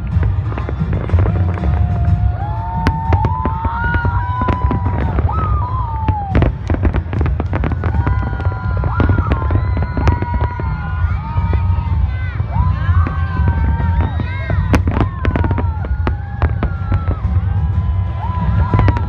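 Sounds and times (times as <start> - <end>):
fireworks bangs and crackles: 0.0 - 19.0
low rumble: 0.0 - 19.0
whistling fireworks sliding pitch: 0.0 - 19.0.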